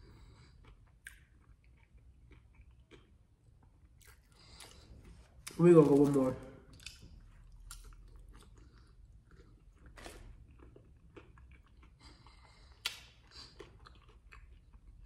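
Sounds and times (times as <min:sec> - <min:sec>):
faint chewing: 0:00.0 - 0:06.1, 0:06.7 - 0:15.0.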